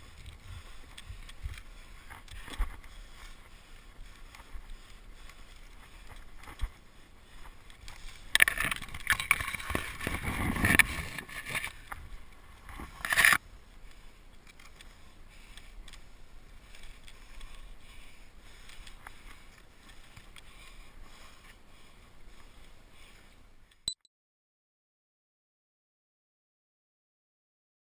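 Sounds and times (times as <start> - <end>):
branches rustling against microphone: 0.0 - 23.6
small ticks: 0.0 - 23.9.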